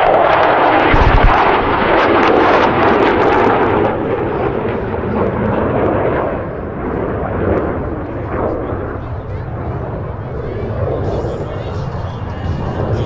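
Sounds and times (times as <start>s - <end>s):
jet aircraft engine roar: 0.0s - 13.0s.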